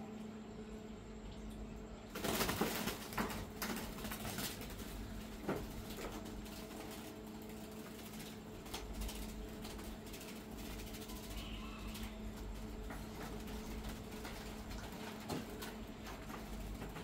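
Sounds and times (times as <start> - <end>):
steady low hum: 0.0 - 17.0
doves flapping and scuffling: 2.1 - 17.0.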